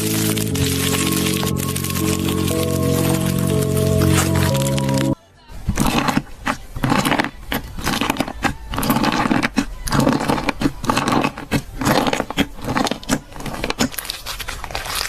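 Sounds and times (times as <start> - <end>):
slime squished by hand: 0.0 - 15.0.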